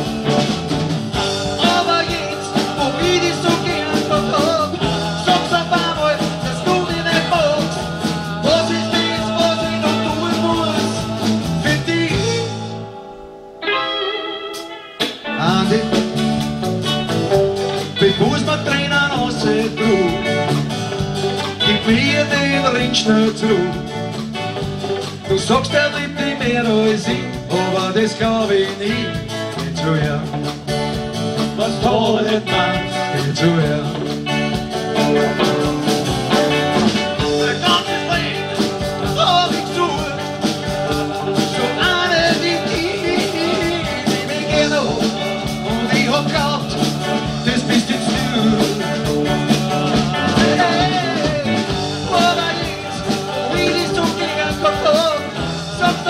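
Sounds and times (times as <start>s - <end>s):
bass guitar: 0.0s - 56.0s
drums: 0.0s - 56.0s
electric guitar: 0.0s - 56.0s
man singing lead: 1.1s - 16.5s, 17.7s - 24.1s, 25.1s - 30.5s, 31.4s - 56.0s.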